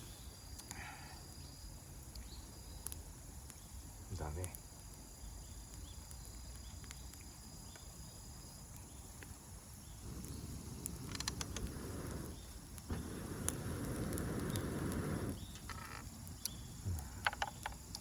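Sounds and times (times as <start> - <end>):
campfire crackling and popping: 0.0 - 18.0
insects chirping: 0.0 - 18.0.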